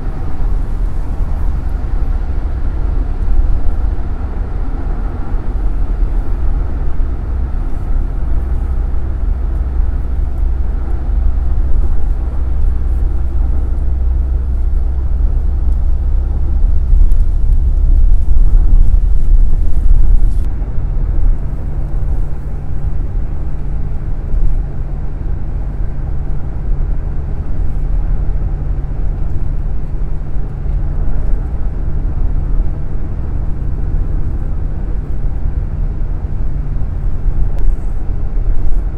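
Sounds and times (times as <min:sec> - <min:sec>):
car interior road rumble: 0:00.0 - 0:38.9.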